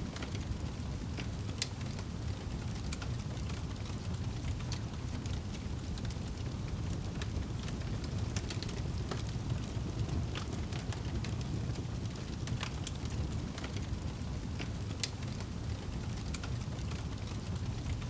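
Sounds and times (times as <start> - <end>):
fire popping and snapping: 0.0 - 18.0
low rumble of flame: 0.0 - 18.0
wood fire crackling: 0.0 - 18.0.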